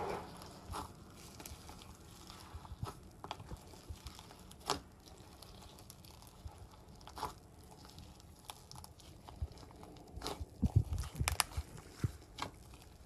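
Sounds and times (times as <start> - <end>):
slime squishing: 0.0 - 13.0
slime popping: 0.7 - 13.0.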